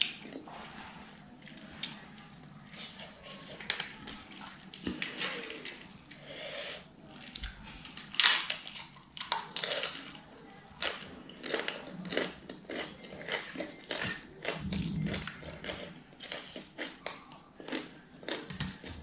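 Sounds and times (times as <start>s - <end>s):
crunching and chewing: 0.0s - 6.3s, 7.0s - 19.0s.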